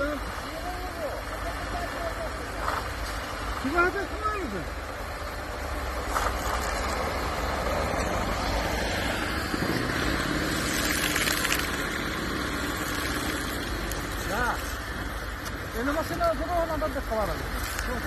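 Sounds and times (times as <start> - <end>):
diesel truck engine under load: 0.0 - 18.0.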